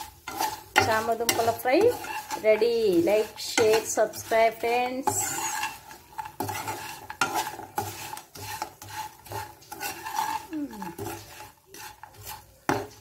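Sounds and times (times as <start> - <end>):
light sizzle from pan: 0.0 - 13.0
spatula scraping frying pan: 0.0 - 13.0.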